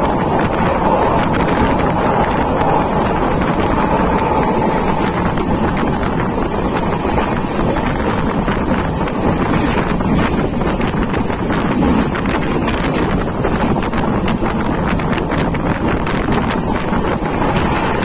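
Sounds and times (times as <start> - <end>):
train wheels rolling on rails: 0.0 - 18.0
wind buffeting microphone: 0.0 - 18.0.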